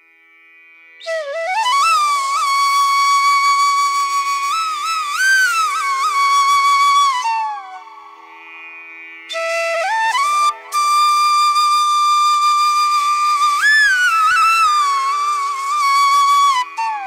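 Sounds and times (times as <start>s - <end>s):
flute melody: 1.0s - 8.1s, 9.3s - 17.0s.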